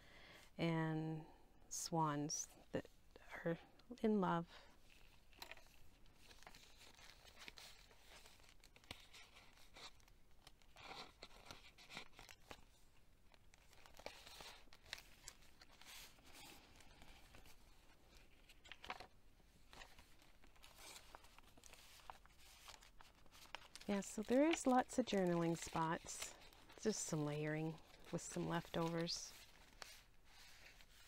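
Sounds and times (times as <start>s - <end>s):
paper pages rustling: 4.9s - 31.0s.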